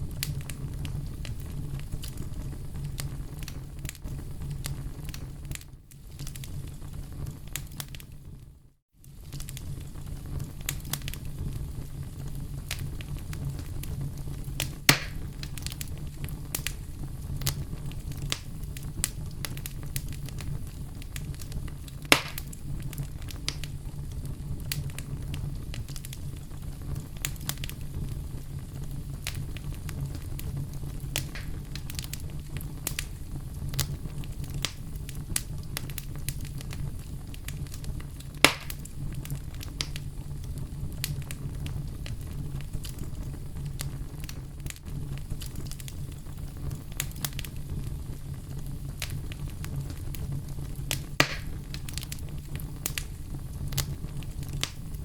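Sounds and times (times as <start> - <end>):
bonfire low rumble: 0.0 - 55.0
burning wood crackling: 0.0 - 55.0
fire popping: 0.0 - 55.0.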